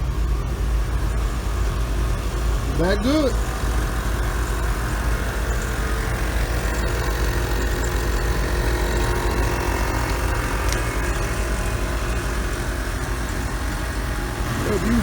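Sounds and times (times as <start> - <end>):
air compressors running: 0.0 - 15.0.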